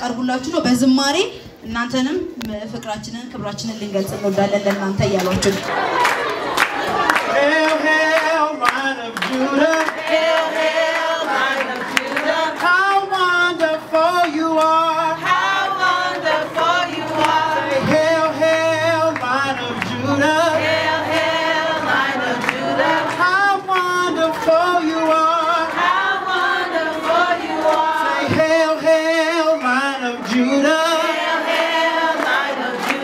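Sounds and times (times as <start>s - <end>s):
group singing together: 5.5s - 33.0s.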